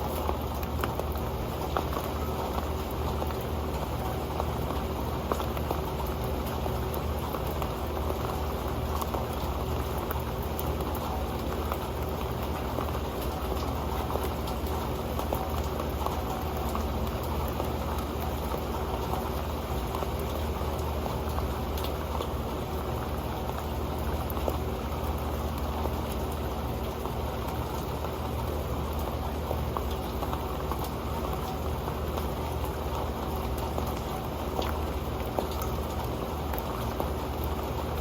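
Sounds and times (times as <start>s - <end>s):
rain on a metal pan: 0.0s - 38.0s.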